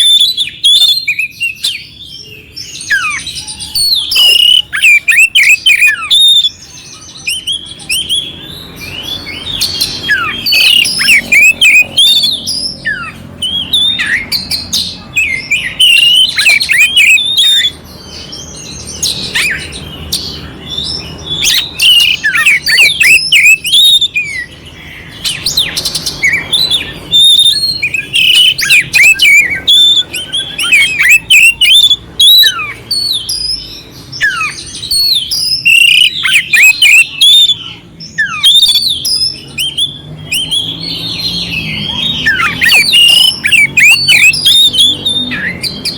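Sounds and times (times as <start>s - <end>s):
songbird singing: 0.0s - 45.9s.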